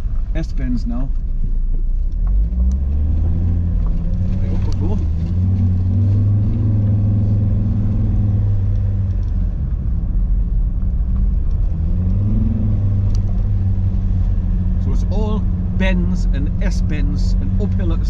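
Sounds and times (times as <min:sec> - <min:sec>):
car engine droning under load: 0:00.0 - 0:18.0.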